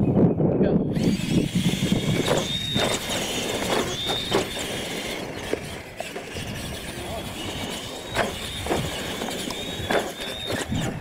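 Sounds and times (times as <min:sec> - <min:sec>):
toy truck electric motors whining: 0:00.9 - 0:11.0.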